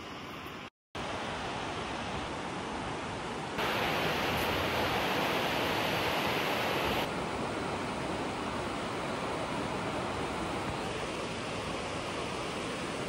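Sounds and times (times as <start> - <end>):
river rapids rushing: 1.0 - 13.0.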